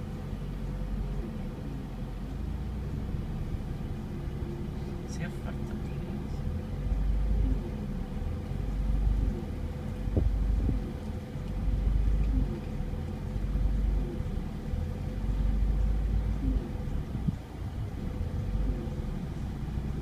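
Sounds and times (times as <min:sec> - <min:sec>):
car engine idling roughly: 0:00.0 - 0:20.0.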